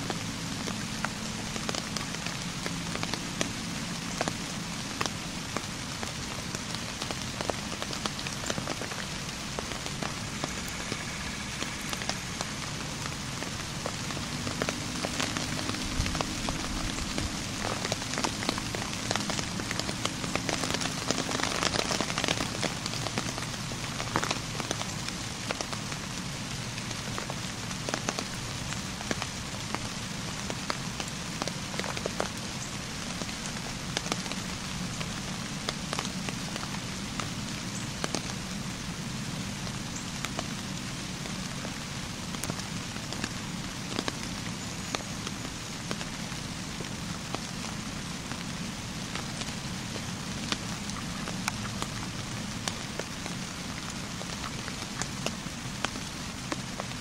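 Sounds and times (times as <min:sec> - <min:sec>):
raindrop ticks: 0:00.0 - 0:38.7, 0:39.6 - 0:57.0
steady rain hiss: 0:00.0 - 0:57.0.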